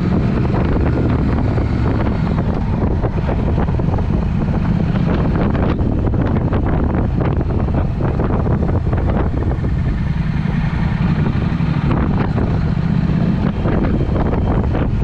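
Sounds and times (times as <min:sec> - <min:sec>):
motorcycle engine rumbling: 0:00.0 - 0:15.0
wind noise on microphone: 0:00.0 - 0:15.0.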